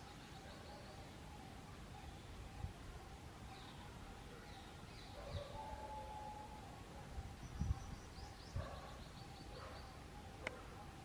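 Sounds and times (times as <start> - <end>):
faint steady background tone: 0.0 - 11.0.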